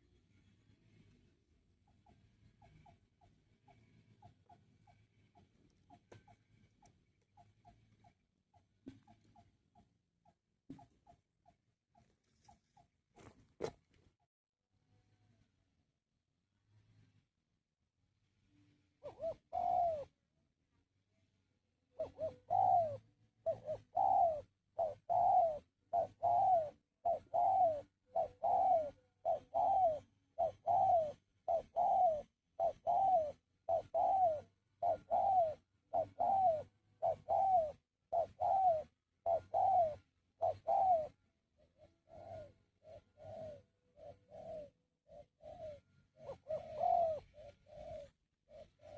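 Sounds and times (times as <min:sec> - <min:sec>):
dove cooing: 0:01.8 - 0:13.8, 0:19.0 - 0:20.2, 0:21.9 - 0:48.9.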